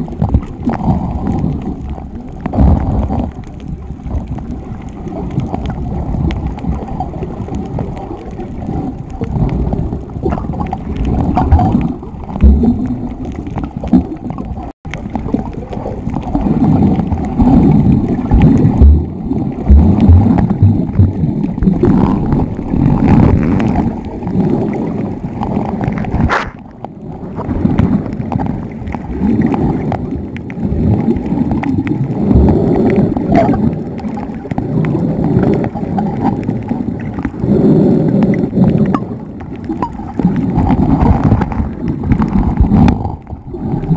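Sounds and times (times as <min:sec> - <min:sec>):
muffled underwater gurgling and bubbling: 0:00.0 - 0:43.9.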